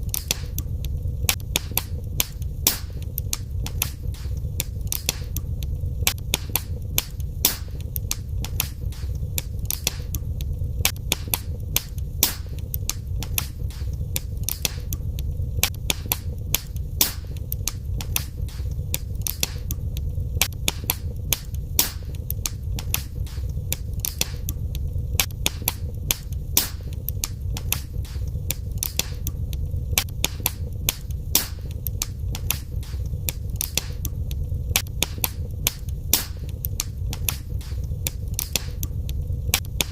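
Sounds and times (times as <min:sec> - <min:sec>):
fire crackling and popping: 0:00.0 - 0:39.9
low rumble: 0:00.0 - 0:39.9.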